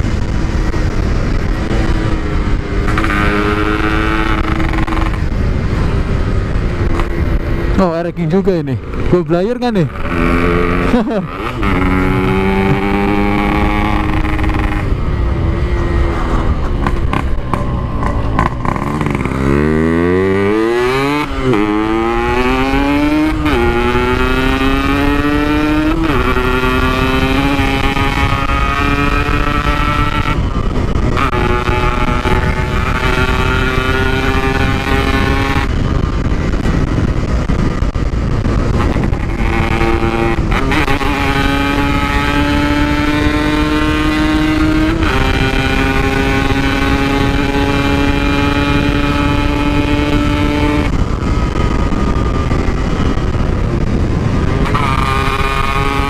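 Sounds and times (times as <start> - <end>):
motorcycle accelerating: 0.0 - 56.0.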